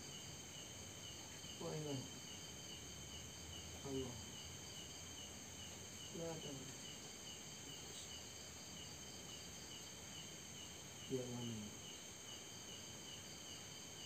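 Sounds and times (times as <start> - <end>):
crickets chirping: 0.0 - 14.0
high insect trill: 0.0 - 14.0.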